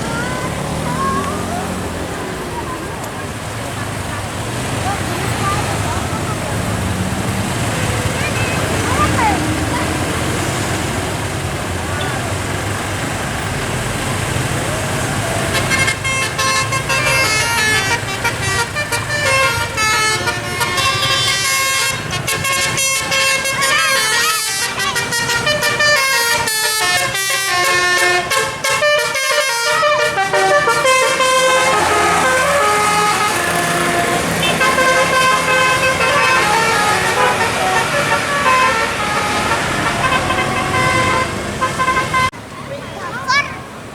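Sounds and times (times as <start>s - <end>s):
engine and traffic noise: 0.0s - 43.9s
musical bus horns melody: 3.2s - 42.4s.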